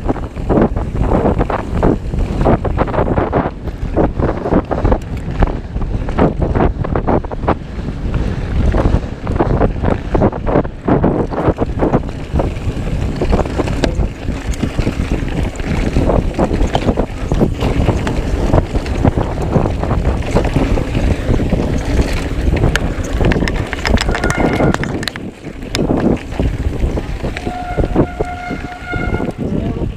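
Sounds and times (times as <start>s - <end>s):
bike knocking and rattling: 0.0s - 29.9s
wind buffeting microphone: 0.0s - 29.9s.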